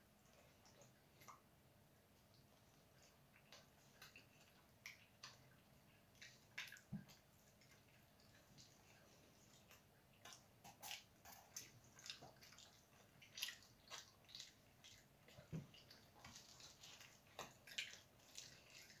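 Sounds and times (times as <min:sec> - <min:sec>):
people chewing wetly: 0:00.0 - 0:19.0.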